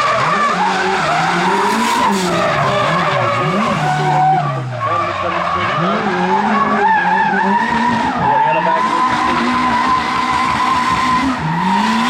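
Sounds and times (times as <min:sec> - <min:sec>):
car engine revving: 0:00.0 - 0:12.0
tyres screeching: 0:00.0 - 0:12.0.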